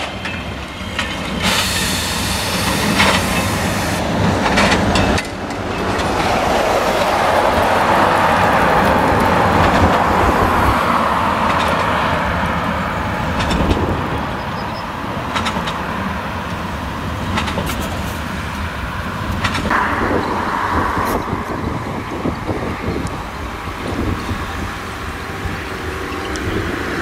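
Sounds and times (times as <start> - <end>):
tractor engine rumble: 0.0 - 26.4.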